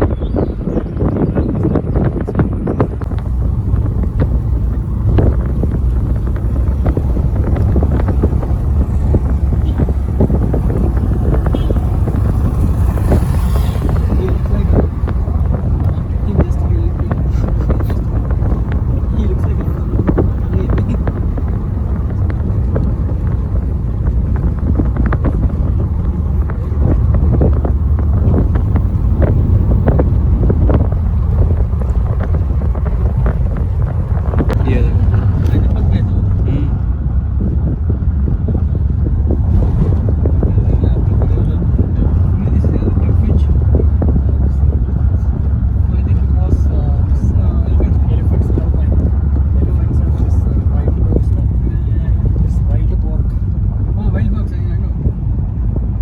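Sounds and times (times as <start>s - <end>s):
vehicle rumbling on road: 0.0s - 56.0s
wind buffeting microphone: 0.0s - 56.0s.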